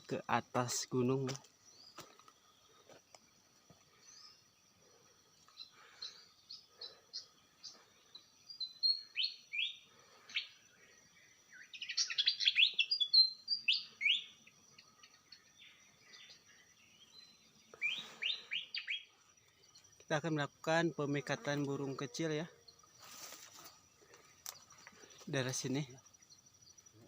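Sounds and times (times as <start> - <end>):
small songbirds chirping: 0.0 - 27.0.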